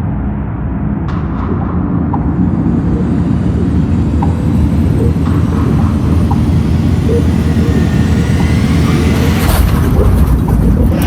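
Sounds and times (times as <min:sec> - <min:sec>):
motorcycle engine and road noise: 0:01.1 - 0:11.0.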